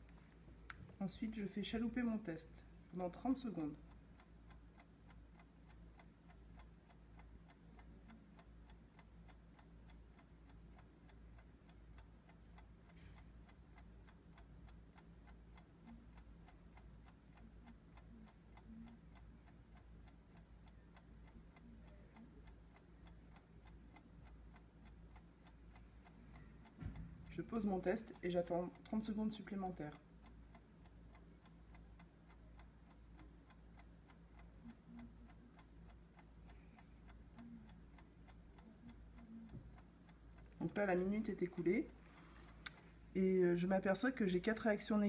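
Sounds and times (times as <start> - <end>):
faint clock ticking: 0.0 - 45.0.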